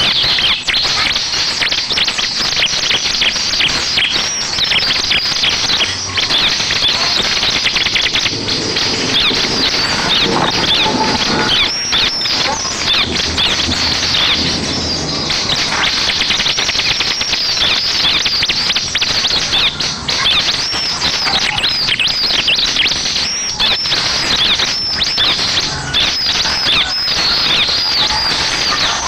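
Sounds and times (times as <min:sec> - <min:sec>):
bird chirping song: 0:00.0 - 0:29.0.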